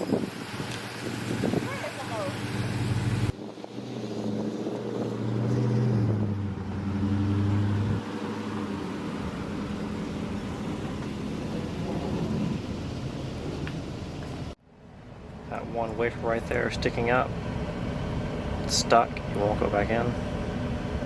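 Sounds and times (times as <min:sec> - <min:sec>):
vehicle engine humming: 0:00.8 - 0:21.0.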